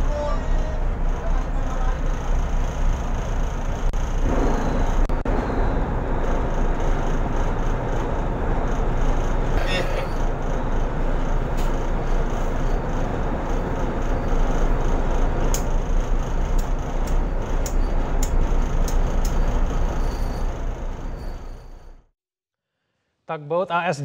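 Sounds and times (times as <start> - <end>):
boat engine rumble: 0.0 - 22.1.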